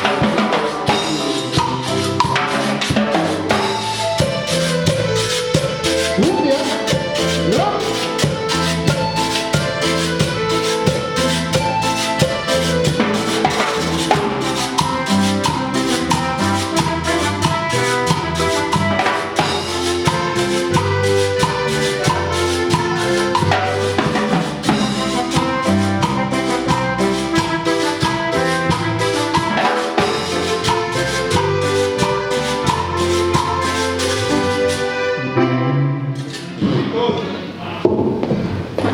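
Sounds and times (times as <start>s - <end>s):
drum kit and percussion beat: 0.0s - 35.3s
cumbia band playing: 0.0s - 37.7s.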